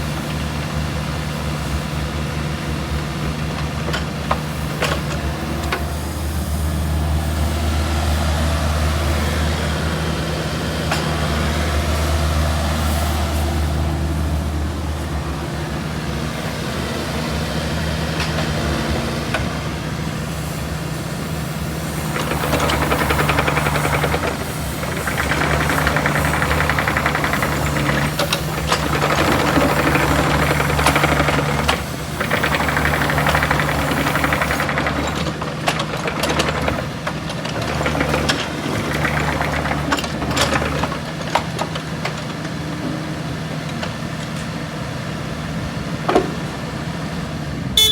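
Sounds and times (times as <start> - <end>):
mini excavator diesel engine running: 0.0 - 47.9.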